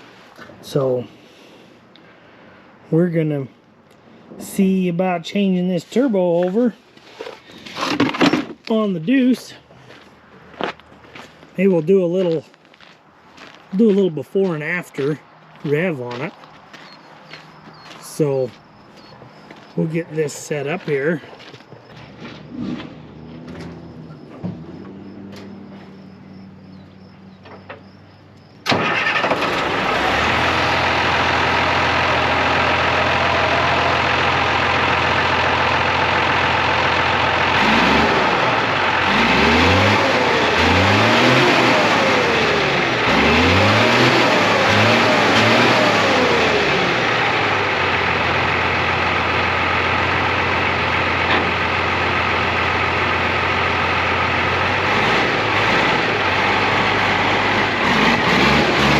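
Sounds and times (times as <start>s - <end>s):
diesel truck engine idling and revving: 0.0s - 58.9s.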